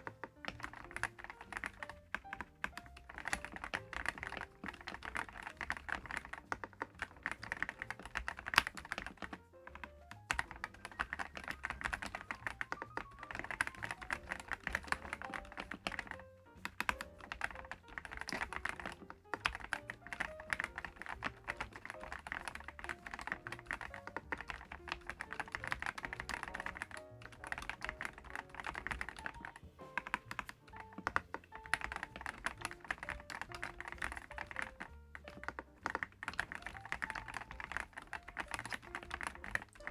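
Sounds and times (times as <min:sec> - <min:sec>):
light melodic background music: 0:00.0 - 0:39.9
mechanical keyboard typing: 0:00.0 - 0:39.9.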